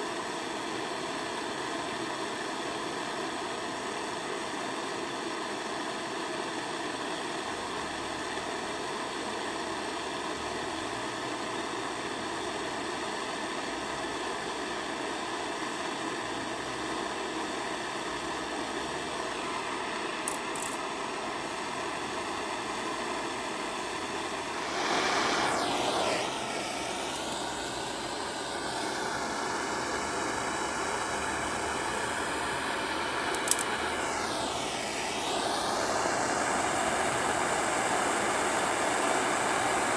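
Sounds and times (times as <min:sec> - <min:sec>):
gas torch hissing: 0:06.7 - 0:39.9.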